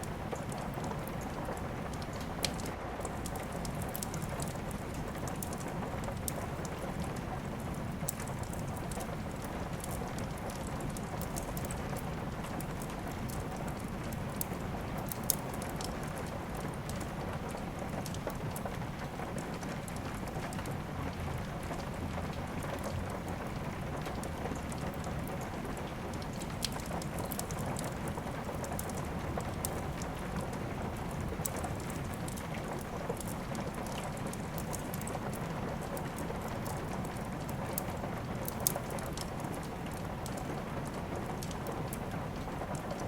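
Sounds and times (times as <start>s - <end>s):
steady rain hissing: 0.0s - 43.0s
wood fire crackling and popping: 0.0s - 43.0s.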